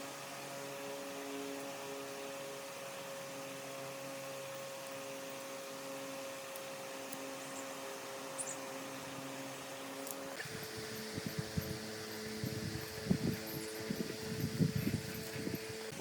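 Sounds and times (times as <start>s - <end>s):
electric motor humming: 0.0s - 16.0s.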